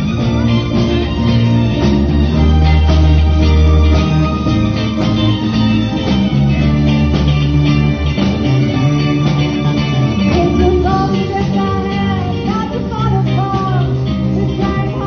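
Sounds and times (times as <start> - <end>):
bending melody line: 0.0 - 15.0
live rock band playing: 0.0 - 15.0.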